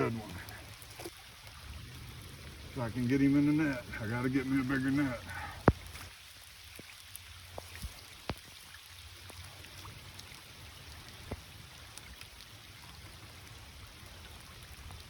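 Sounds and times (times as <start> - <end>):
rain hiss: 0.0 - 15.0
raindrop ticks: 0.0 - 15.0.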